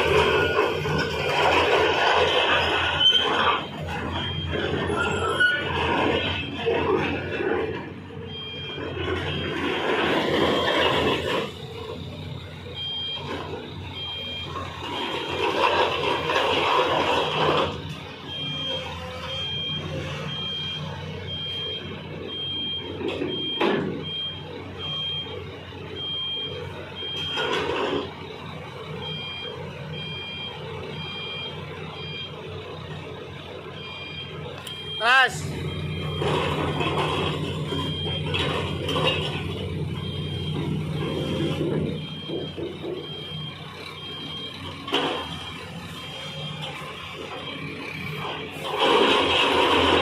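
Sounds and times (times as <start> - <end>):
travel alarm beeping: 0.0 - 7.4, 8.2 - 33.0, 33.6 - 50.0
diesel engine running: 0.0 - 50.0.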